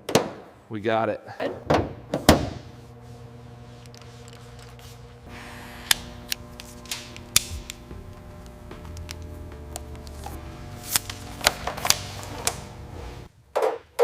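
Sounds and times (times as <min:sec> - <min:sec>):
low hum of level tones: 0:00.6 - 0:13.5.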